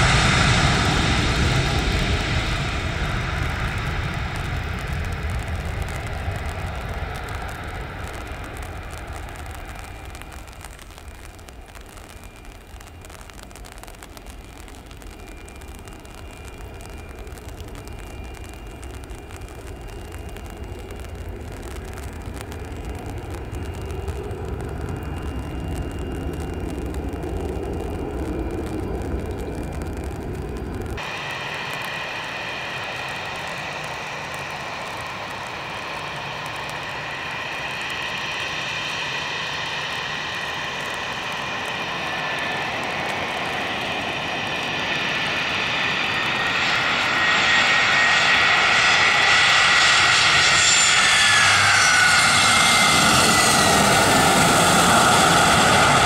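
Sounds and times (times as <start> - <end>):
jet engines rumbling low: 0.0 - 56.0
jet engines whining: 0.0 - 56.0.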